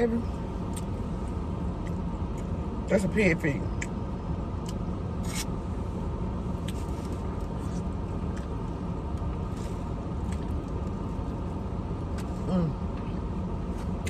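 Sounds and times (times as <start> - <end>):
low rumble inside car: 0.0 - 14.0.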